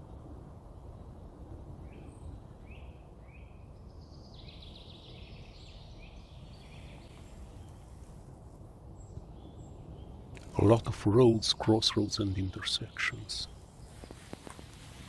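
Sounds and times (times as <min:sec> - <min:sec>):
low background noise: 0:00.0 - 0:15.0
rapid trilling birdsong: 0:01.9 - 0:08.1, 0:08.8 - 0:15.0.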